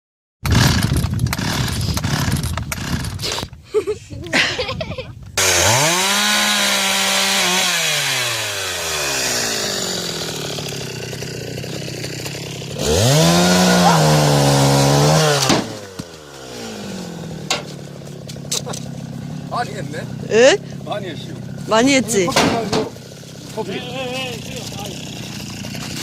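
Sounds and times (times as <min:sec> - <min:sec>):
chainsaw revving: 0:00.4 - 0:03.4, 0:05.4 - 0:26.0
chainsaw cutting firewood: 0:00.4 - 0:03.6, 0:05.4 - 0:26.0.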